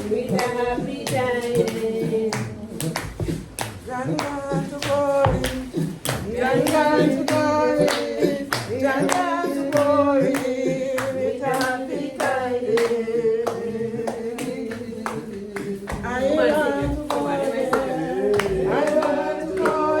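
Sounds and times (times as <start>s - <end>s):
hand-clapping on the beat: 0.0s - 20.0s
voices singing together: 0.0s - 20.0s.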